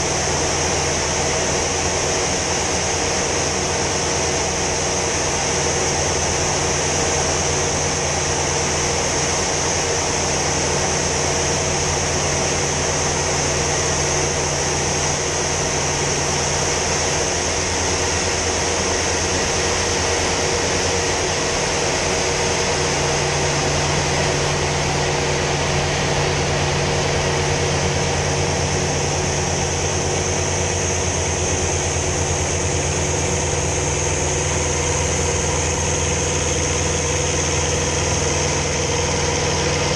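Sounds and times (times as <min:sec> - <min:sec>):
piston aircraft engine running: 0:00.0 - 0:39.9.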